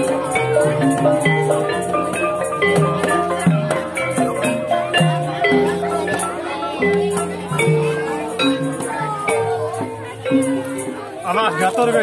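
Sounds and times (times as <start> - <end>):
drum strokes: 0.0 - 12.0
metal keyed instruments melody: 0.0 - 12.0.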